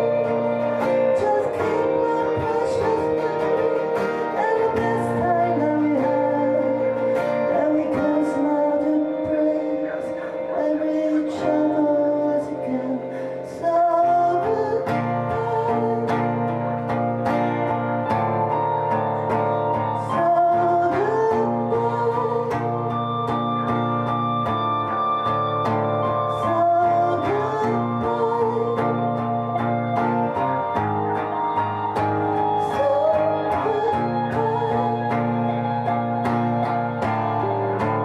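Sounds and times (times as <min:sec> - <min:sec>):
person singing: 0:00.0 - 0:38.0
plucked guitar: 0:00.0 - 0:38.0.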